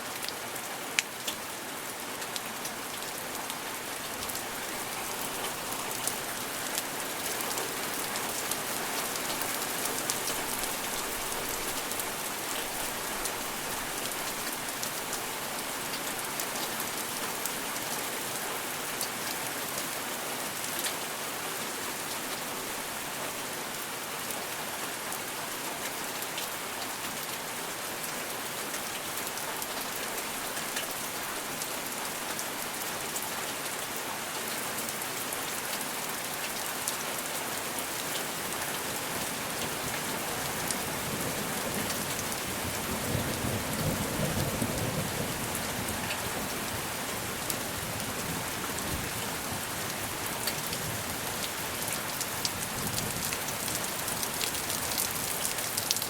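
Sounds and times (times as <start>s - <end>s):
rain pattering: 0.0s - 21.1s, 28.3s - 56.0s.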